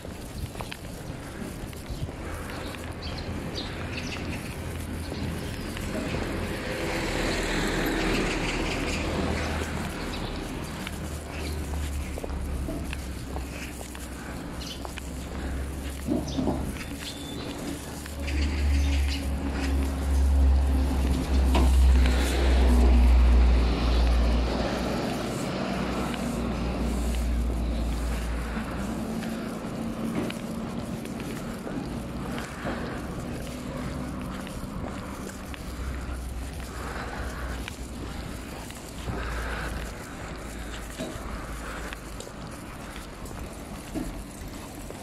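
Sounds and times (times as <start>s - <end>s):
steady low traffic rumble: 0.0s - 45.0s
vehicle passing: 0.0s - 45.0s.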